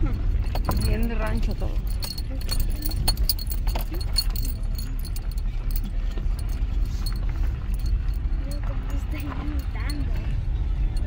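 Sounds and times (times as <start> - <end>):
car driving slowly: 0.0 - 11.0
small metallic clicks and rattles: 0.0 - 11.0.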